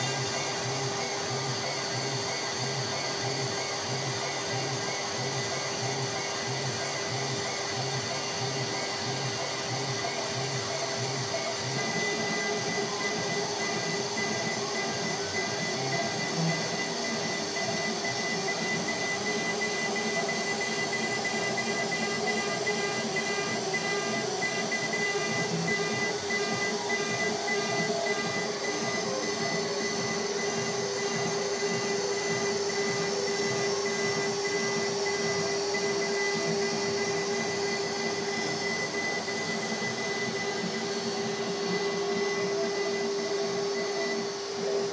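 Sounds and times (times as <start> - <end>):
router spindle whine: 0.0 - 44.9.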